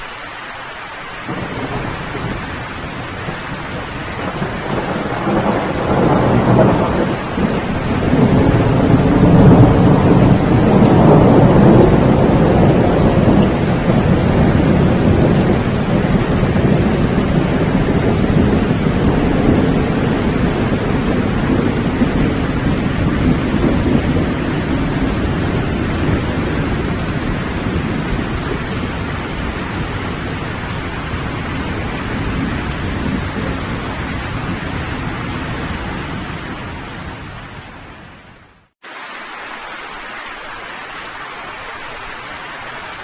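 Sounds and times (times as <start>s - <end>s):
steady rain: 0.0s - 43.0s
rolling thunder: 1.2s - 37.3s.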